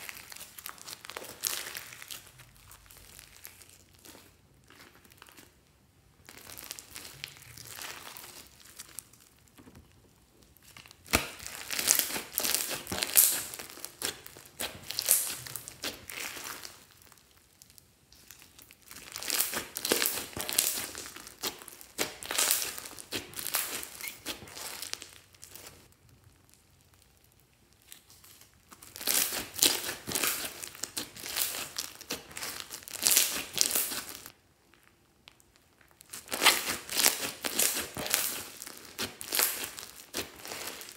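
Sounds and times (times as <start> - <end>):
slime squishing and crackling: 0.0 - 40.9.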